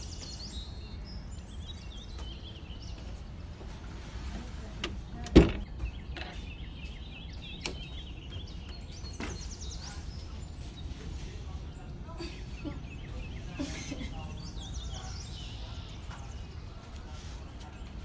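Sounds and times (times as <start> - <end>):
small birds chirping: 0.0 - 3.8, 4.9 - 18.0.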